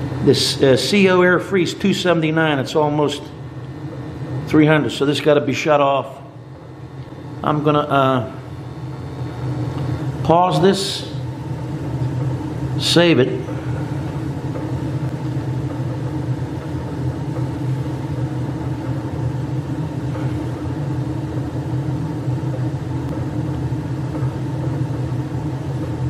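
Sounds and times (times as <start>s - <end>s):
boiler rumbling with low hum: 0.0s - 26.0s.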